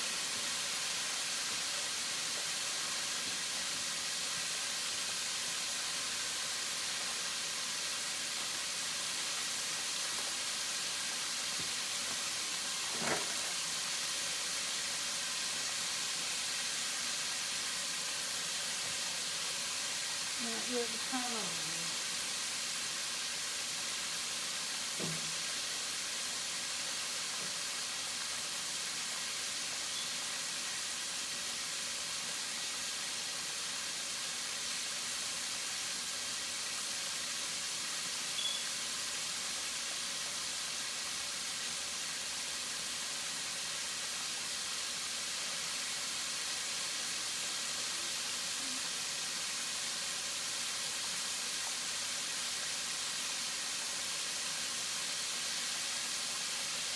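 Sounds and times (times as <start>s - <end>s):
wings frying in hot oil: 0.0s - 56.9s.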